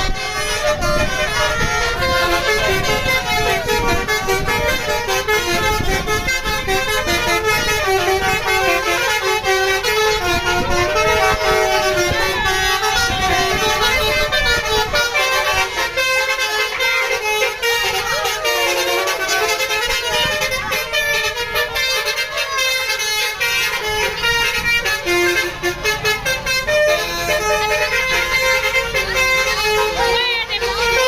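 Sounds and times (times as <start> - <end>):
musical air horn melody: 0.0 - 31.0.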